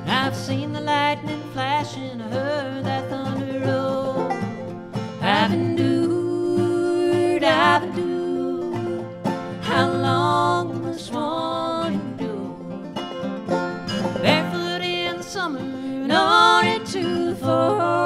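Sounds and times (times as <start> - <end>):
person singing: 0.0 - 4.4, 5.2 - 13.0, 14.2 - 18.0
acoustic guitar: 0.0 - 18.0
banjo: 0.0 - 18.0.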